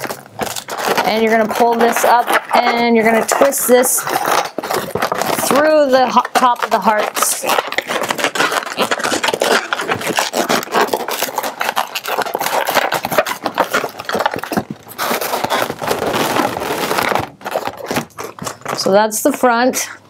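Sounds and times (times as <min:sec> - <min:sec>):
balloons rubbing and squeaking: 0:00.0 - 0:20.0.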